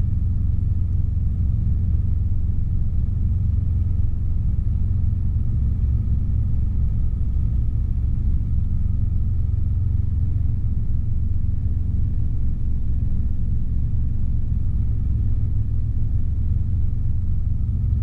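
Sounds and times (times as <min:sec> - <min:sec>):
faint steady whine: 0:00.0 - 0:18.0.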